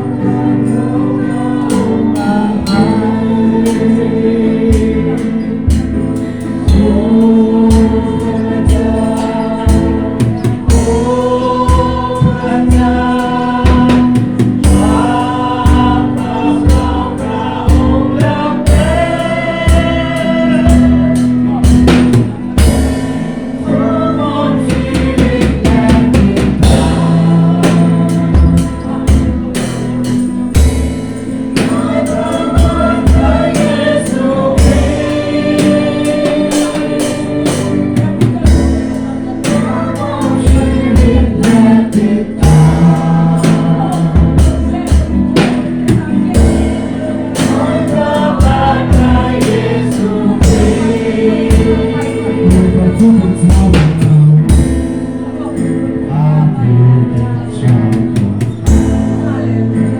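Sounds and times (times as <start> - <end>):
drum kit beat: 0.0 - 55.8, 57.7 - 59.9
live band playing: 0.0 - 59.9
person singing: 0.0 - 59.9.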